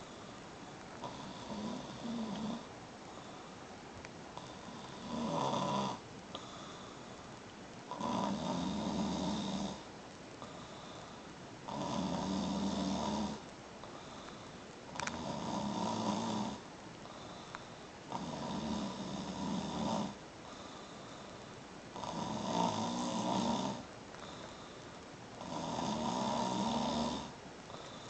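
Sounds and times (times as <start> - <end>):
man snoring: 1.0 - 3.4, 4.4 - 7.0, 7.9 - 14.2, 15.0 - 17.5, 18.1 - 21.3, 22.0 - 24.8, 25.4 - 28.0.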